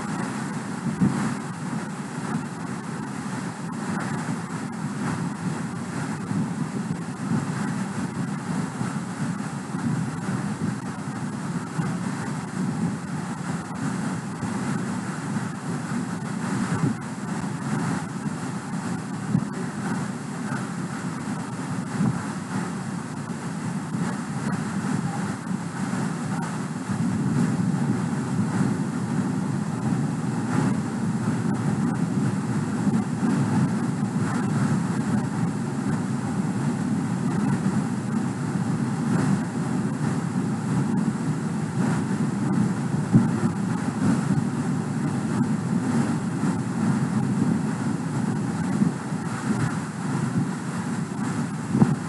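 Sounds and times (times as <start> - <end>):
steady low noise: 0.0 - 52.0.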